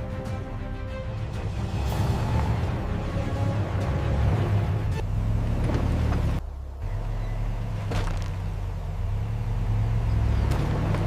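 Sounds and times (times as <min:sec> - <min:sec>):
vehicle engine rumbling: 0:01.0 - 0:11.0.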